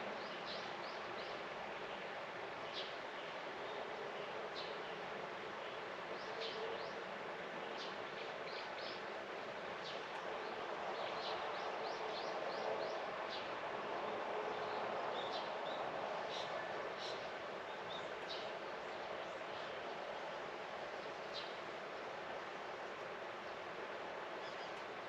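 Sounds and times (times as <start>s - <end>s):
outdoor ambient noise: 0.0s - 25.0s.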